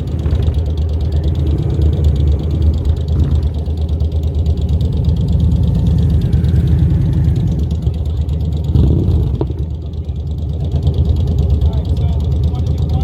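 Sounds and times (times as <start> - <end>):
motorcycle engine idling low: 0.0 - 13.0.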